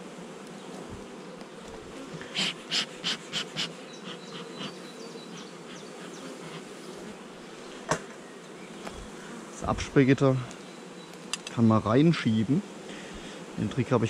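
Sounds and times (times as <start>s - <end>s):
honeybees humming: 0.0s - 14.0s
bee smoker bellows puffing: 0.3s - 14.0s.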